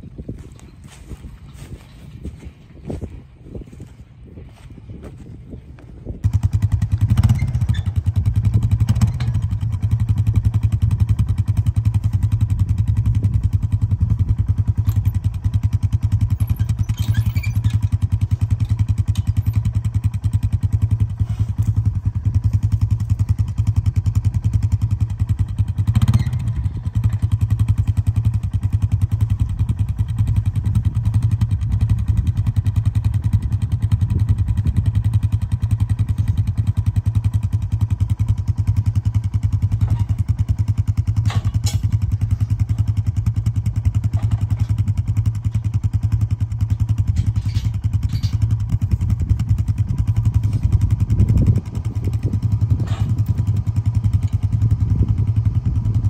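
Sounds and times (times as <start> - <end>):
atv engine idling: 0.0 - 56.0.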